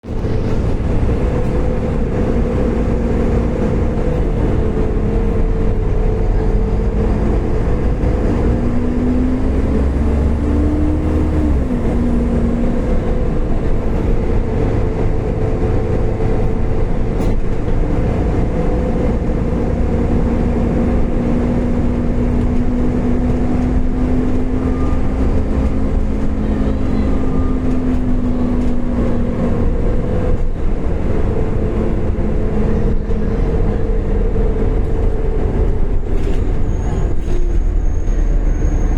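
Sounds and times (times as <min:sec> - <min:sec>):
bus engine hum: 0:00.0 - 0:38.9.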